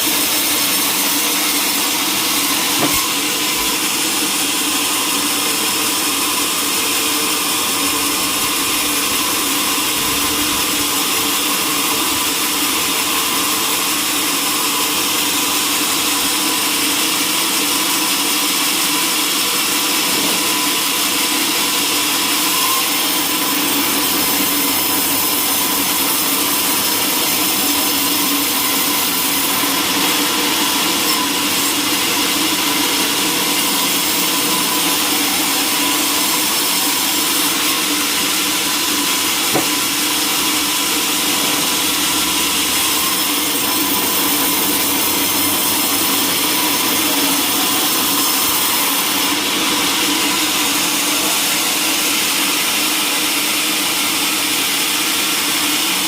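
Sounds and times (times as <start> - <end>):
saw cutting timber: 0.0 - 56.0.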